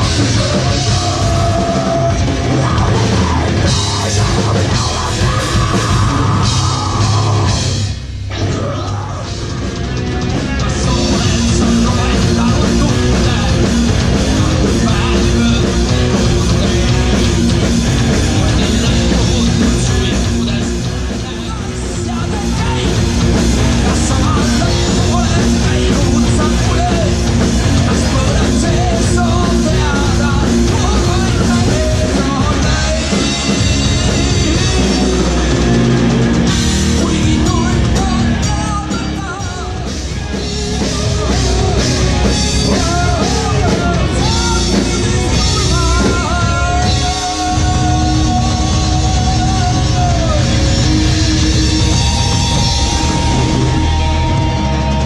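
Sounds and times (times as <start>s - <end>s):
crowd noise: 0.0s - 55.0s
distorted electric guitars: 0.0s - 55.0s
pounding drum kit: 0.0s - 55.0s.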